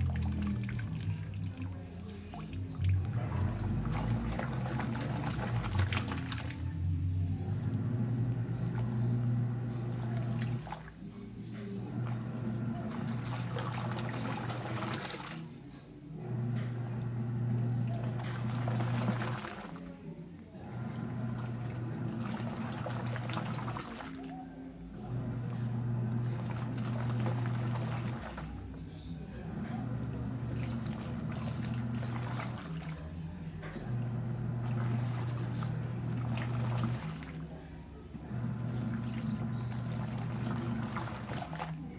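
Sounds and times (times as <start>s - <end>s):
washing machine motor humming: 0.0s - 41.9s
water sloshing: 0.0s - 41.9s.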